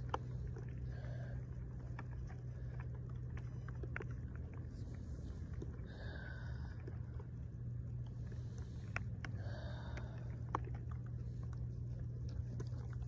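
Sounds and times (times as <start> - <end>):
slow controlled breathing: 0.0 - 11.9
steady low rumble: 0.0 - 13.0.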